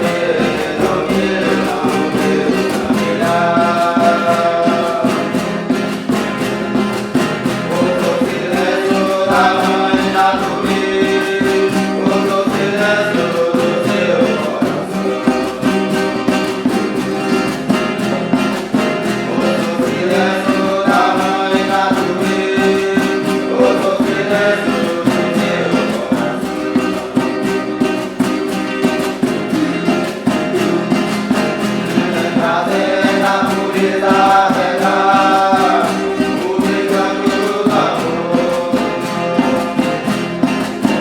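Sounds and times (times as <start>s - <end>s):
strummed acoustic guitar: 0.0s - 41.0s
voices chanting: 0.0s - 41.0s.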